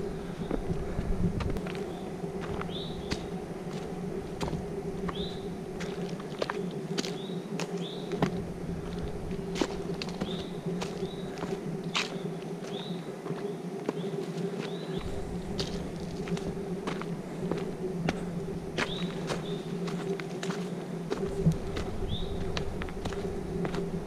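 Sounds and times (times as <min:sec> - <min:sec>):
footsteps on woodland trail: 0:00.0 - 0:24.0
low buzzing hum: 0:00.0 - 0:24.0.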